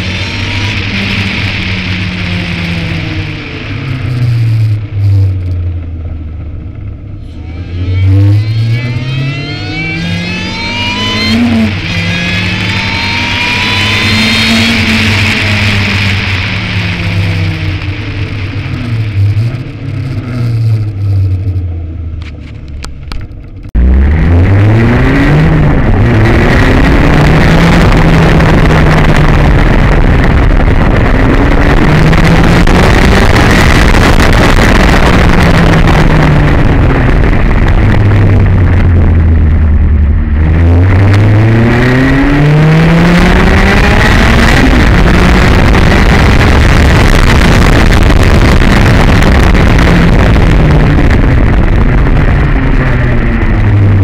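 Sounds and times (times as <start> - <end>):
car engine revving: 0.0 - 54.0
heavy wind noise: 0.0 - 54.0.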